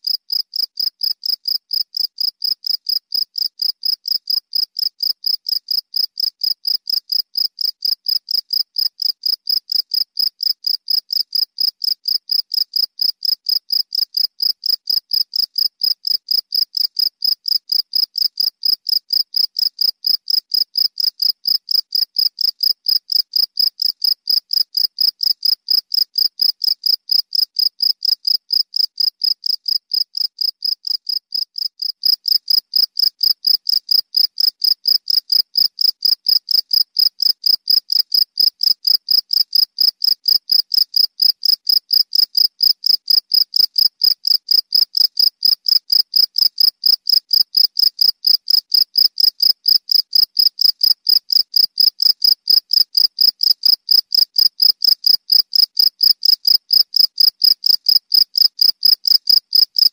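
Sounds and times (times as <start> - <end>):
cricket chirping: 0.1 - 59.9.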